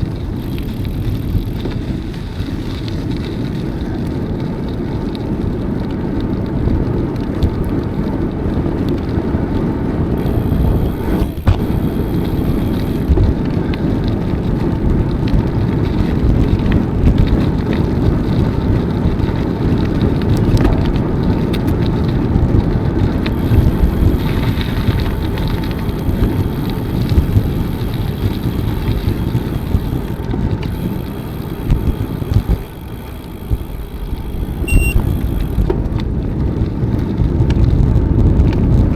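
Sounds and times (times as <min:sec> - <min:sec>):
bicycle tyres rolling: 0:00.0 - 0:38.9
wind buffeting microphone: 0:00.0 - 0:38.9.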